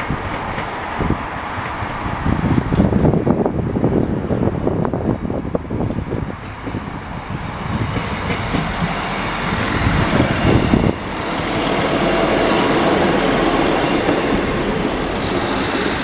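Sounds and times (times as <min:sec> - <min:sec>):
diesel train passing: 0:00.0 - 0:16.0.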